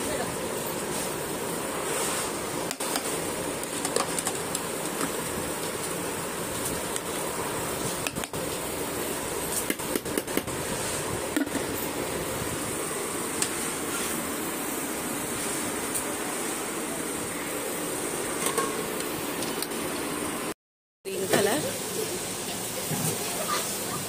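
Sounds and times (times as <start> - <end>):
steady rushing hiss: 0.0 - 20.5, 21.1 - 24.0.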